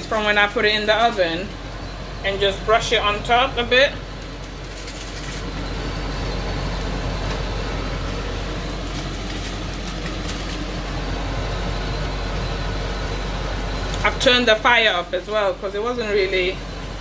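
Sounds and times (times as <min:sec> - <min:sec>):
extractor fan drone: 0:00.0 - 0:17.0.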